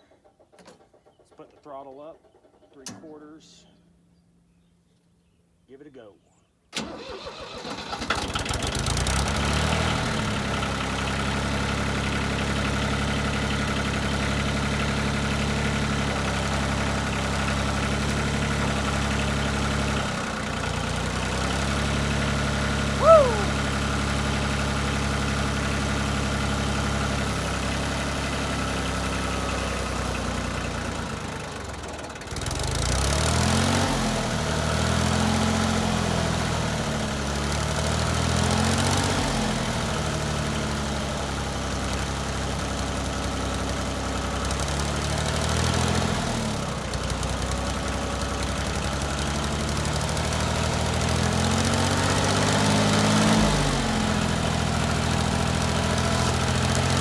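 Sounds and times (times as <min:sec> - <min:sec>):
tractor diesel engine running: 0:06.8 - 0:57.0.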